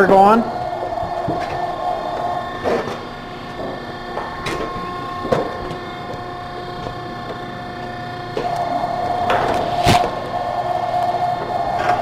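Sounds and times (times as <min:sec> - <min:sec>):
shop machinery humming: 0:00.0 - 0:12.0.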